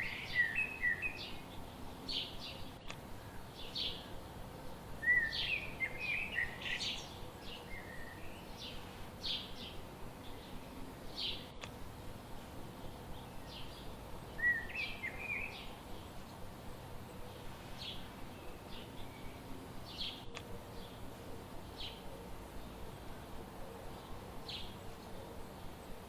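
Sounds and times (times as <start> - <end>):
birds chirping: 0.0 - 26.0
steady background hiss: 0.0 - 26.0.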